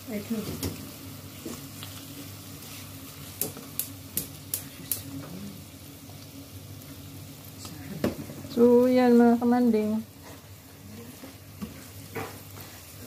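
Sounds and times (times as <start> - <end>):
meat and onion sizzling in a pan: 0.0 - 13.0.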